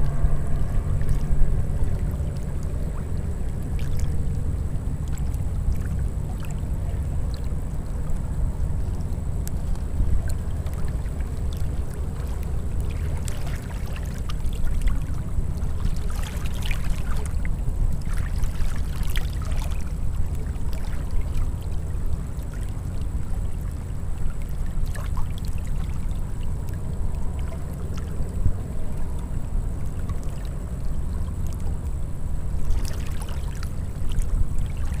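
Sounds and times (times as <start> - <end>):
water lapping and splashing: 0.0 - 35.0
wind rumble on microphone: 0.0 - 35.0.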